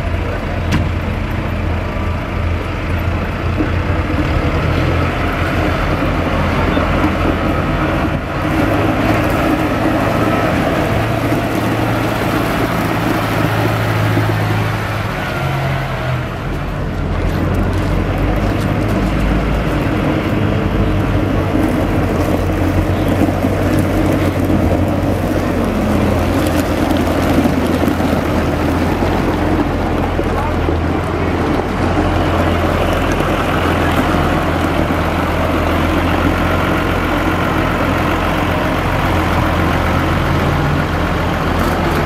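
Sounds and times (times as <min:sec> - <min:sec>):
diesel tractor engines running: 0:00.0 - 0:42.0.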